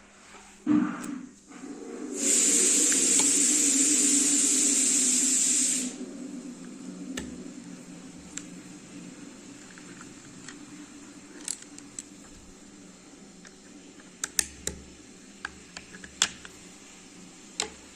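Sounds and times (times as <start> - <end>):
loud steady hiss: 0.0 - 17.9.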